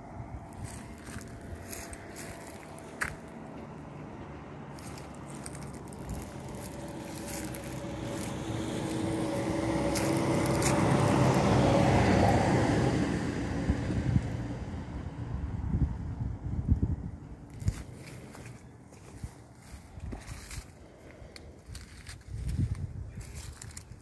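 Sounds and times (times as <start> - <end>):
vehicle engine hum: 0.0 - 24.0.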